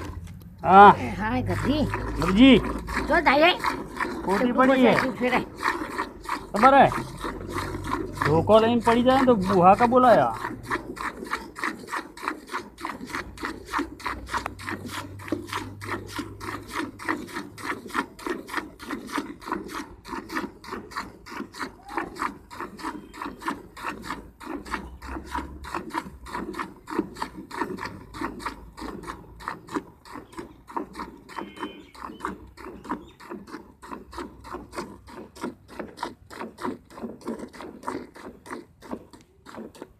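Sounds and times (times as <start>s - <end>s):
milk squirting into a pail: 0.0s - 39.9s.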